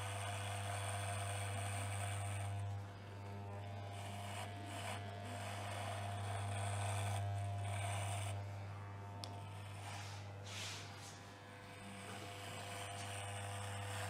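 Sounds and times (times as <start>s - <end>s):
electric hair clippers buzzing: 0.0s - 14.0s.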